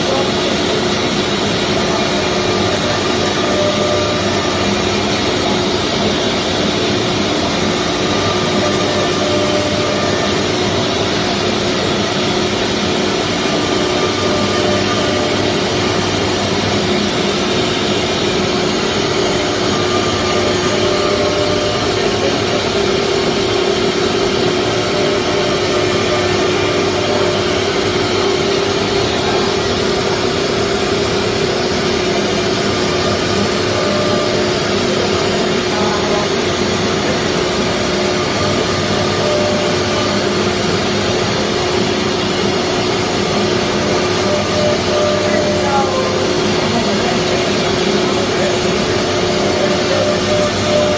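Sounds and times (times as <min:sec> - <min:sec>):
router spindle hum: 0:00.0 - 0:50.9.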